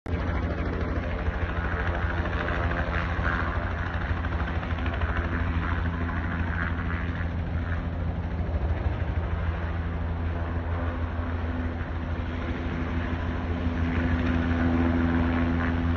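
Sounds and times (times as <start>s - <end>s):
airplane engines droning: 0.1s - 15.9s.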